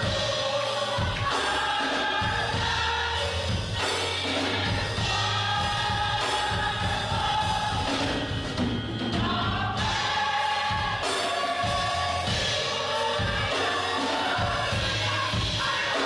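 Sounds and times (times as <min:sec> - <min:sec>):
gospel choir singing: 0:00.0 - 0:16.0
instrumental accompaniment: 0:00.0 - 0:16.0.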